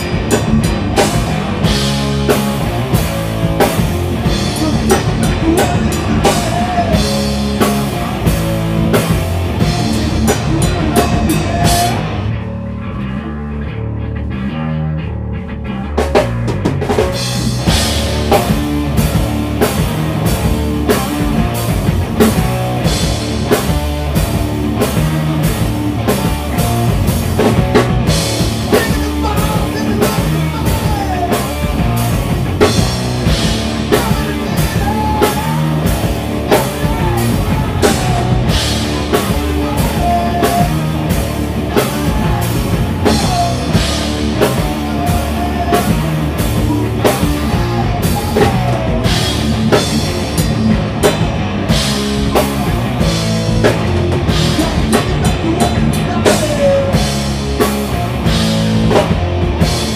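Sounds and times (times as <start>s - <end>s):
drum and cymbal hits: 0.0s - 12.1s, 16.2s - 59.9s
heavy rock band playing: 0.0s - 59.9s.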